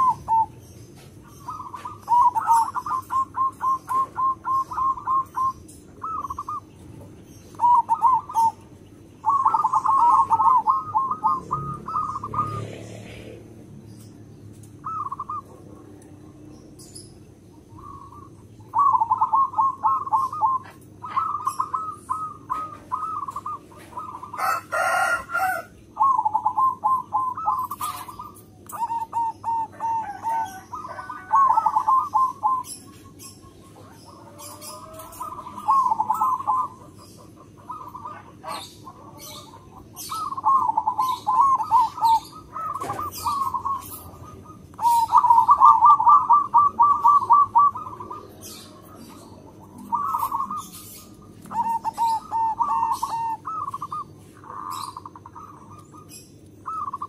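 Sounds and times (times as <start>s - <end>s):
dove cooing song: 0.0s - 57.0s.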